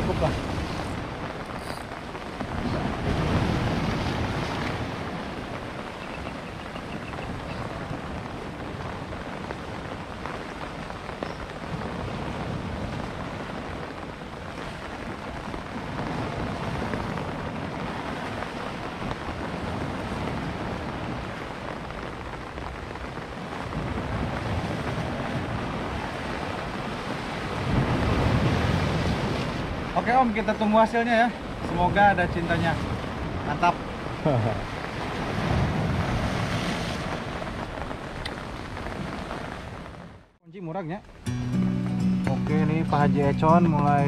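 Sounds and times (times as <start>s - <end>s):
sea waves washing against rocks: 0.0s - 40.4s
wind on microphone: 0.0s - 40.4s.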